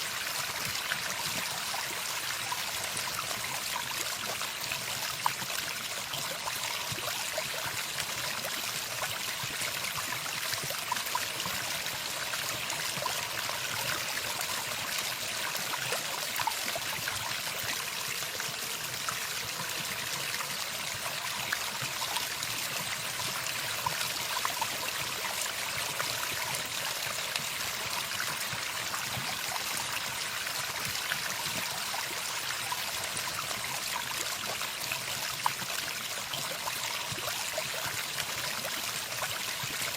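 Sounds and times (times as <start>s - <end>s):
water stream trickling and splashing: 0.0s - 39.9s.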